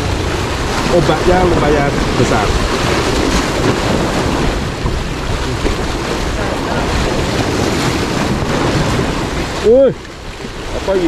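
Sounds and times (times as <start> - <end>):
waves splashing against rocks: 0.0 - 11.0
wind buffeting microphone: 0.0 - 11.0.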